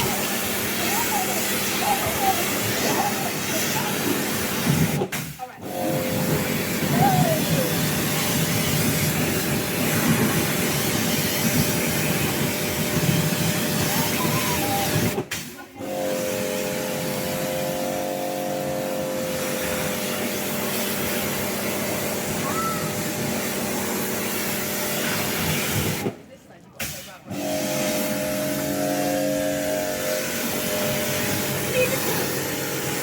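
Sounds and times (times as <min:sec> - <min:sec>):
motor hum: 0:00.0 - 0:26.1, 0:27.3 - 0:33.0
pressure washer spraying: 0:00.0 - 0:26.2, 0:26.8 - 0:33.0.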